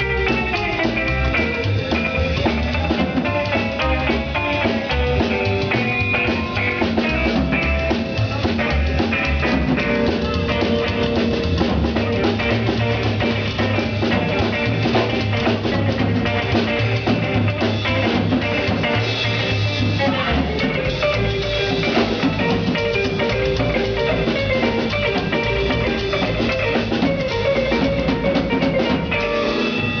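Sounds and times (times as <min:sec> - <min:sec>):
drum kit: 0:00.0 - 0:30.0
electric guitar: 0:00.0 - 0:30.0
rock music: 0:00.0 - 0:30.0.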